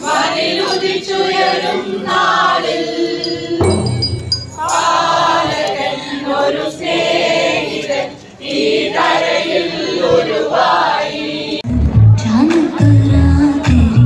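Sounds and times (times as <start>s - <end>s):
group singing a carol in chorus: 0.0s - 11.7s.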